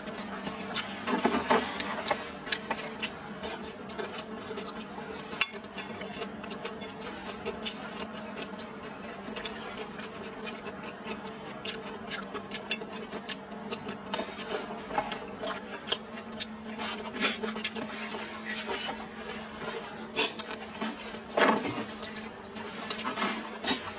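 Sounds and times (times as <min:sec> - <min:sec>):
chewing: 0:00.0 - 0:23.9.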